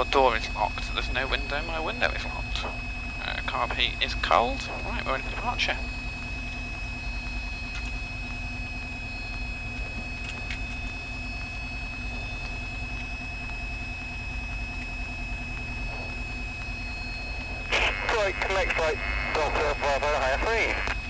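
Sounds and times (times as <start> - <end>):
aircraft engine idling: 0.0 - 21.0
high whine: 0.0 - 21.0.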